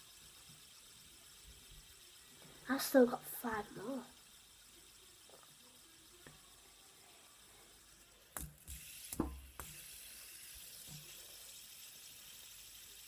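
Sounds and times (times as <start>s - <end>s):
fidget spinner clicks and knocks: 0.0s - 13.0s
low hiss: 0.0s - 13.0s.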